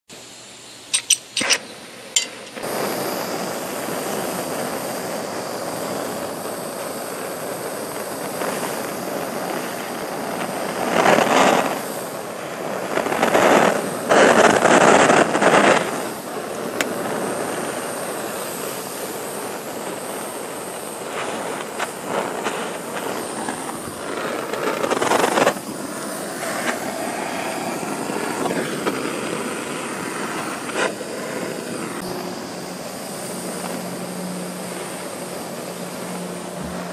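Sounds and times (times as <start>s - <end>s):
propane torch hissing: 0.1s - 36.9s.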